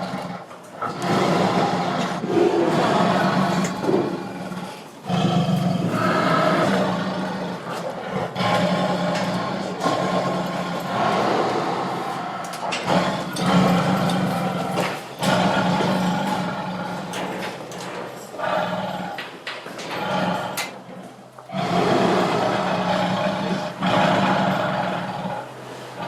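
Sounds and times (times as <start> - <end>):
tiger roaring and growling: 0.0 - 26.0.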